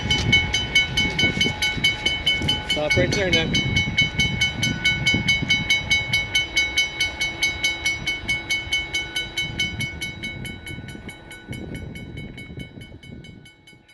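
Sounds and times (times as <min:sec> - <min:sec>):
crossing bell ringing rapidly: 0:00.0 - 0:13.9.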